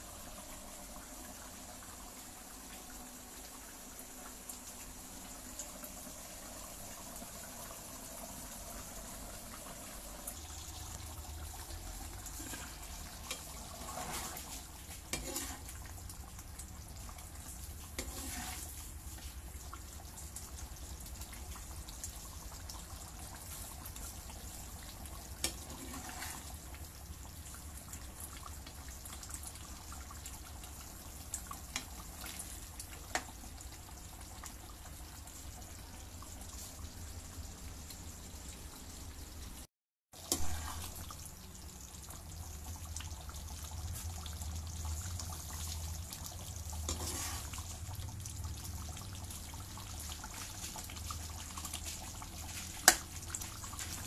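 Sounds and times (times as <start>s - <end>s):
liquid bubbling in a wok: 0.0s - 54.0s.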